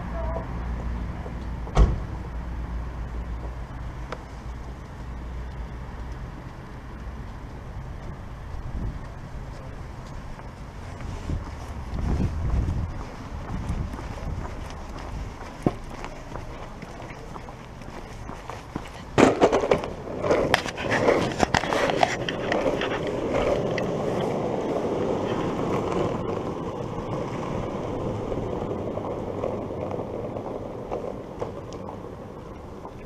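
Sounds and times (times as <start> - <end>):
longboard wheels rolling on tarmac: 0.0 - 33.0.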